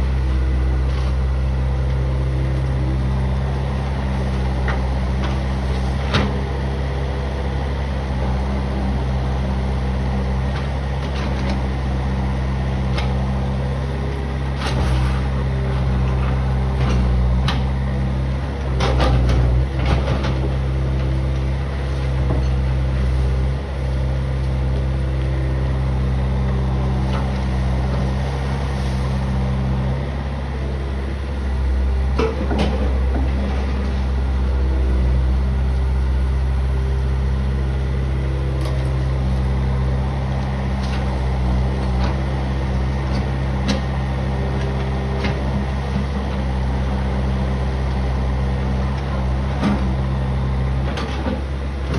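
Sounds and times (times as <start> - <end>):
backhoe engine running: 0.0 - 51.9.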